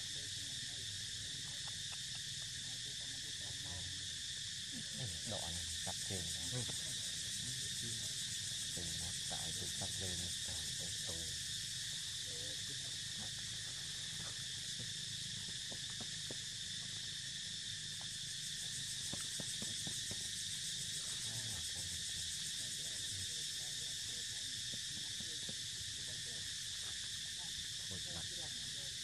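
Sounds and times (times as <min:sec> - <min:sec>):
insect chorus drone: 0:00.0 - 0:29.0.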